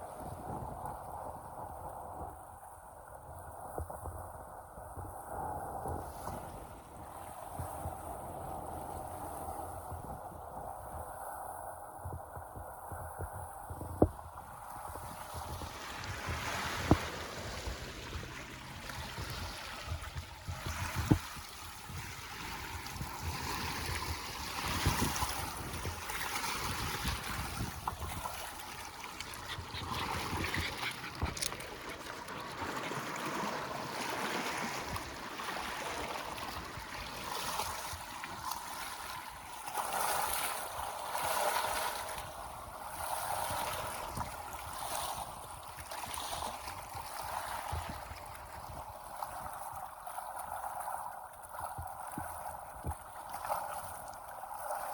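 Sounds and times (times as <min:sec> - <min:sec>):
lake waves lapping at shore: 0:05.8 - 0:10.2, 0:14.0 - 0:54.9.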